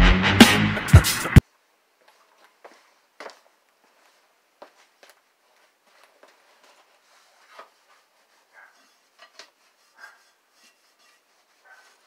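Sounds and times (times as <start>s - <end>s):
faint rustling: 2.0s - 12.0s.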